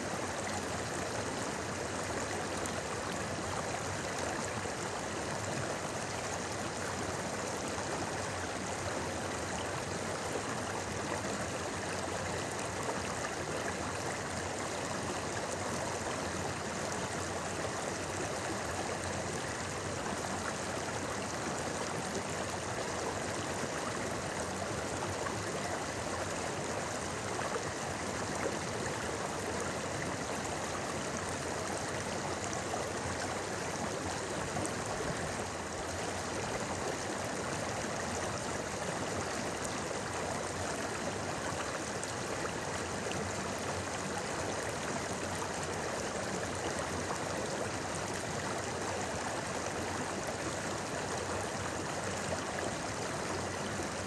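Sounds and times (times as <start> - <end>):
river babbling: 0.0 - 54.0.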